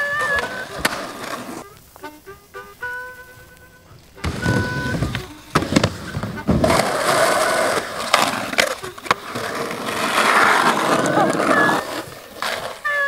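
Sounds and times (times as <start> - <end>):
skateboard clacking: 0.0 - 13.0
skateboard grinding on concrete: 0.0 - 13.0
skateboard wheels rolling: 0.0 - 13.0.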